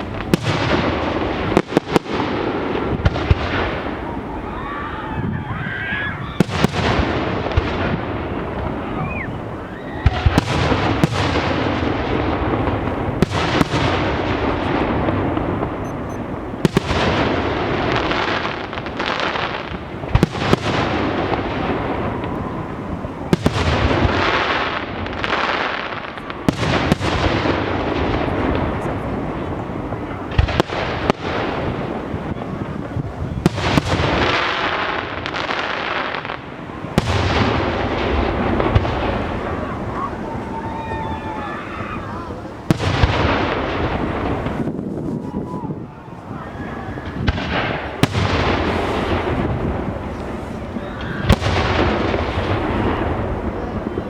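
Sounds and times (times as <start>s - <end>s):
fireworks bangs: 0.0s - 54.0s
fireworks crackle and hiss: 0.0s - 54.0s.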